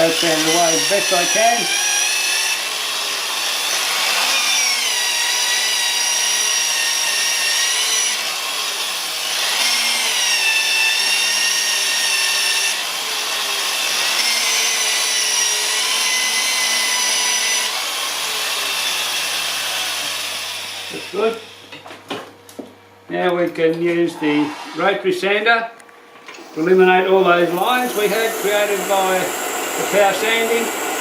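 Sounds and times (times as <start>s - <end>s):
power sander whining on wood: 0.0s - 21.7s, 26.3s - 31.0s.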